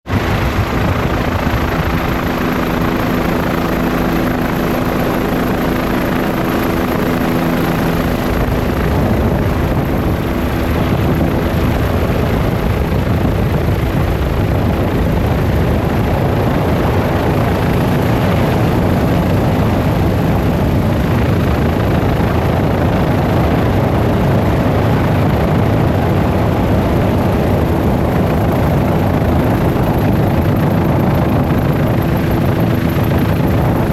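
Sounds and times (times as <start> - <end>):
helicopter rotor and engine: 0.0 - 33.9
wind wash: 0.0 - 33.9.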